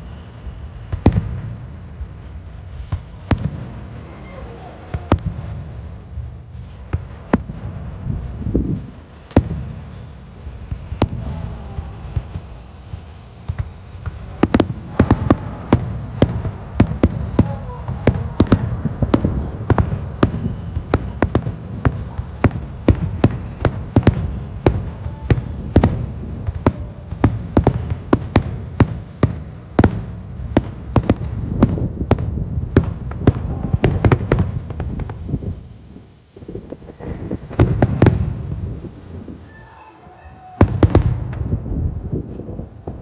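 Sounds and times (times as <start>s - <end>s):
low rumble: 0.0s - 39.8s, 40.6s - 43.0s
fireworks bursting: 0.0s - 43.0s.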